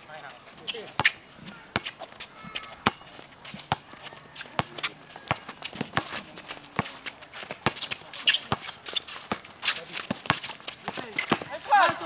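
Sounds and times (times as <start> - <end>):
sneaker footsteps and scuffs: 0.1 - 12.0
basketball bouncing on concrete: 0.6 - 12.0.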